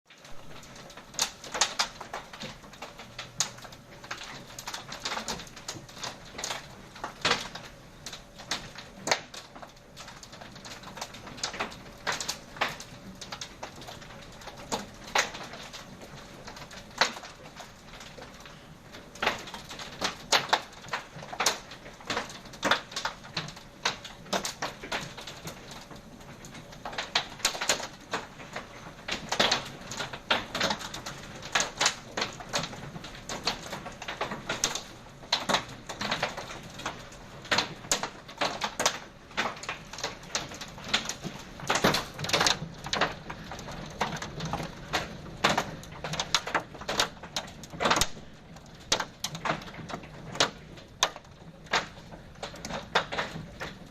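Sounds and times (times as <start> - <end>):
rain tapping on hard surface: 0.1 - 53.9.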